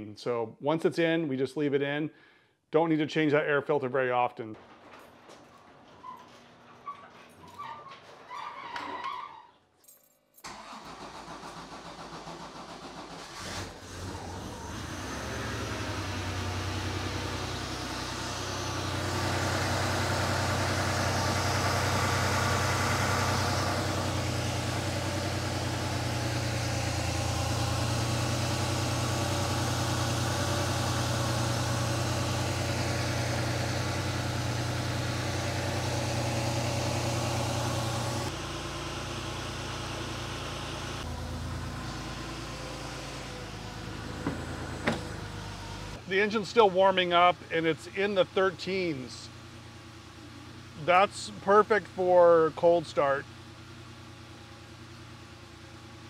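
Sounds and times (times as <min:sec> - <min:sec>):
car engine starting and idling: 0:10.4 - 0:56.0.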